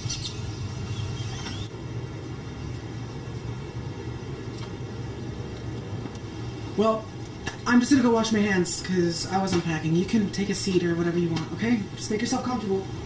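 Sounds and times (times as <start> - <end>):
rumbly background noise: 0.0 - 13.0
steady low hum: 0.0 - 13.0.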